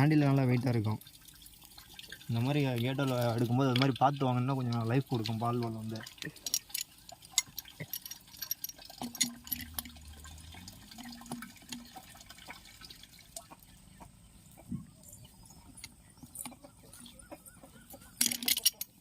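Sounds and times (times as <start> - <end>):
water dripping: 0.0 - 17.4.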